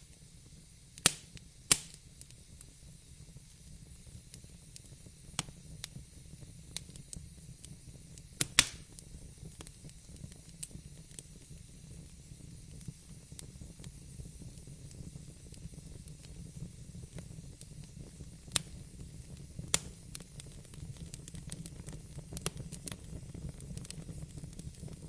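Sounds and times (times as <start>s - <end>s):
wood fire burning: 0.0s - 25.0s.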